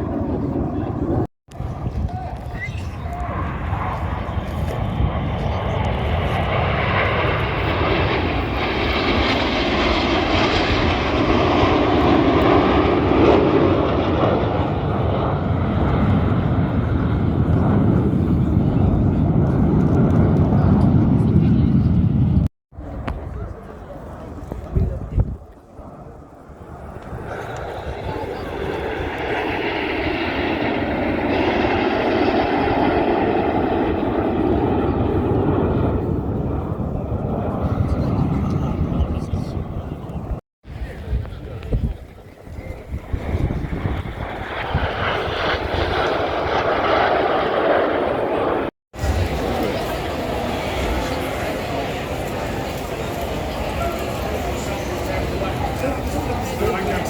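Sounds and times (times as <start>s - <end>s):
aircraft engine roar: 0.0s - 57.0s
low wind rumble: 0.0s - 57.0s.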